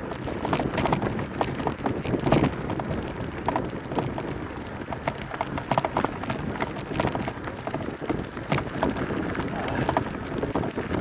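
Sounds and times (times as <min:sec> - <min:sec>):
bike clattering and rattling: 0:00.0 - 0:11.0
tyre rumble: 0:00.0 - 0:11.0
wind noise: 0:00.0 - 0:11.0.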